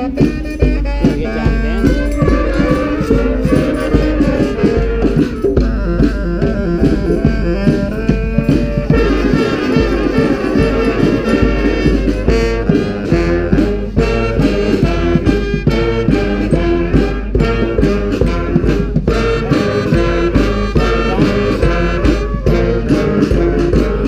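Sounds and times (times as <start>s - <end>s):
brass band playing: 0.0s - 24.0s
steady drum beat: 0.0s - 24.0s.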